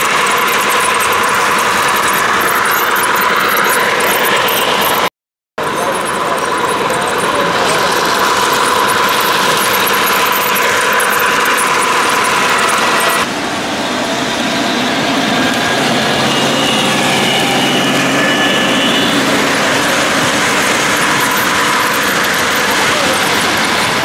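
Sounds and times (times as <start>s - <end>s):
model trains running on track: 0.0s - 24.0s.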